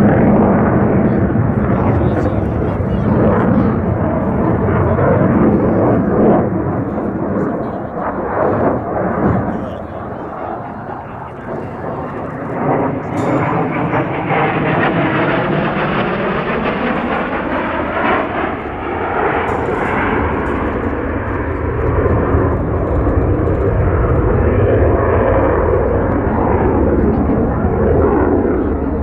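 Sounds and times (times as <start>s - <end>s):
jet engine roaring overhead: 0.0s - 29.0s.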